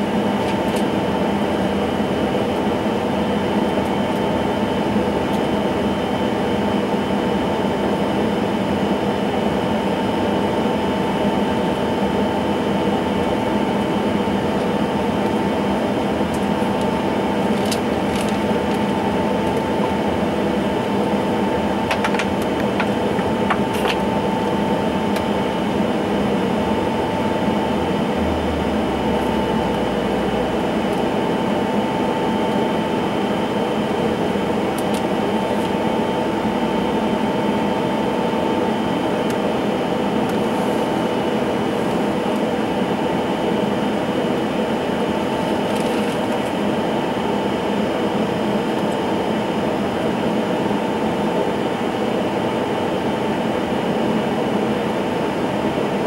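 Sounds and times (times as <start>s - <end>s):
jet engine idling inside cabin: 0.0s - 56.0s.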